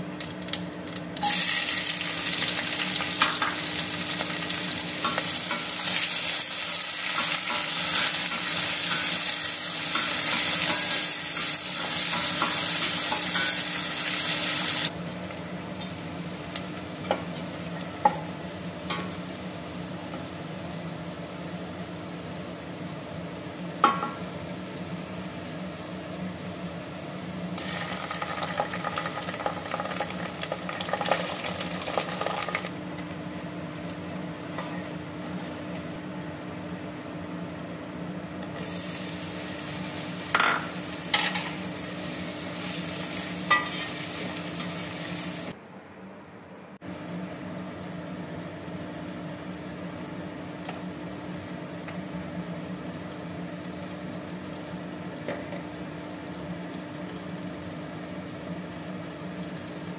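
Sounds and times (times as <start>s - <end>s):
onions sizzling in oil: 0.3s - 45.6s, 47.0s - 59.9s.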